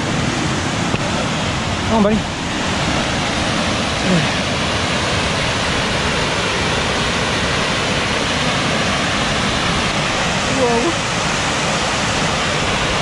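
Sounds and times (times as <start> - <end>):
fast-flowing river: 0.0 - 13.0
waterfall rushing: 0.0 - 13.0.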